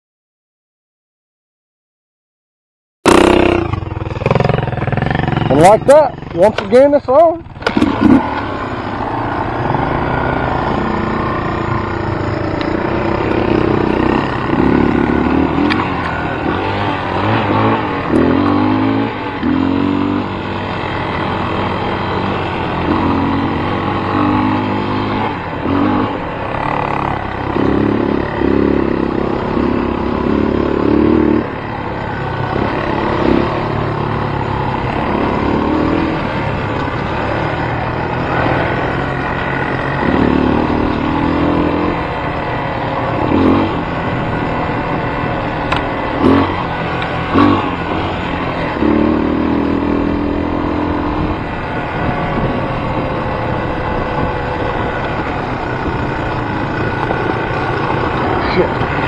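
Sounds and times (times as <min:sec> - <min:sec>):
engine running: 0:03.1 - 0:59.0.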